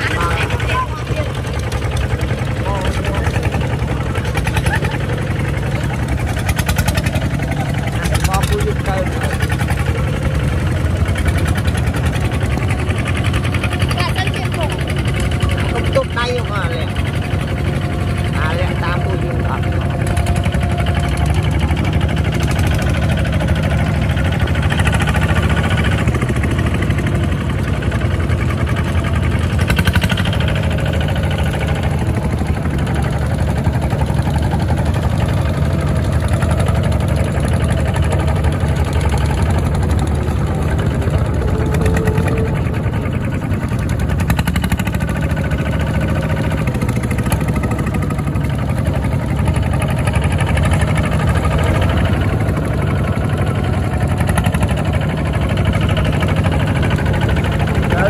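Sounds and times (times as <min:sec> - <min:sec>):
diesel tractor engine running: 0:00.0 - 0:58.0
second tractor engine: 0:00.0 - 0:58.0.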